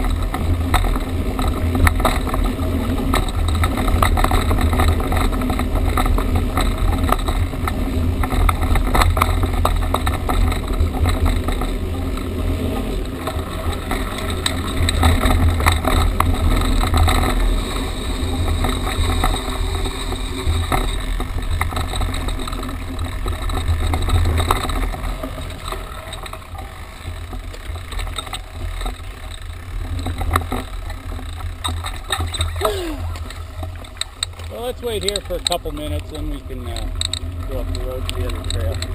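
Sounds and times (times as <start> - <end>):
bike rattling over bumps: 0.0 - 38.9.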